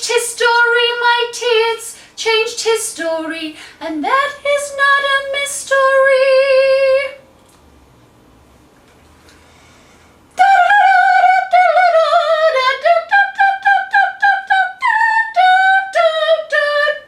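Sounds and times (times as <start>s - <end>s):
woman singing wordless notes: 0.0s - 7.2s, 10.4s - 17.0s.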